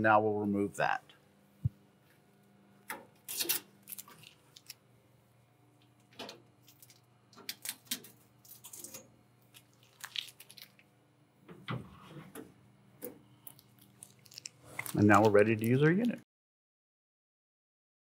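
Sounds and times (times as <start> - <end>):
low steady hum: 0.0 - 16.2.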